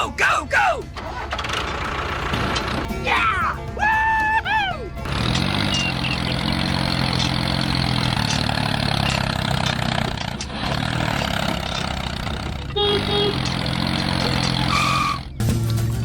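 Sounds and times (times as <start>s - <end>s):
small tractor engine running: 0.9s - 3.0s, 4.9s - 16.0s.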